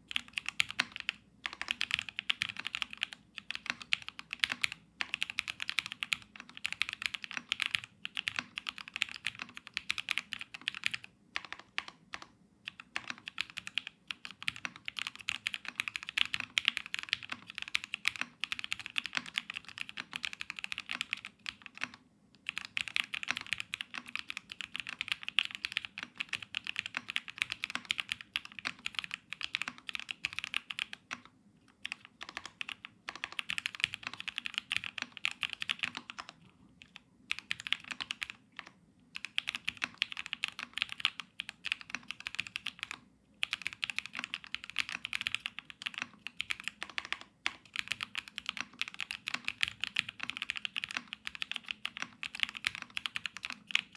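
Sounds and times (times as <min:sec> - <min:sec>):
mechanical keyboard typing: 0:00.0 - 0:53.9.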